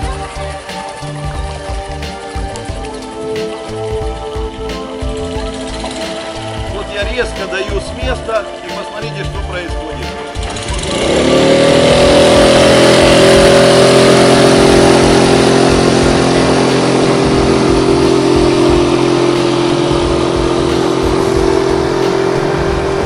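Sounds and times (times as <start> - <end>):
outboard motor at high revs: 0.0 - 23.0.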